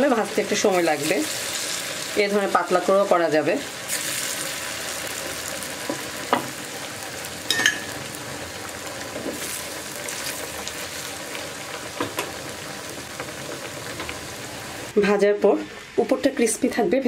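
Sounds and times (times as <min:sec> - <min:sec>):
cakes deep-frying in hot oil: 0:00.0 - 0:17.0.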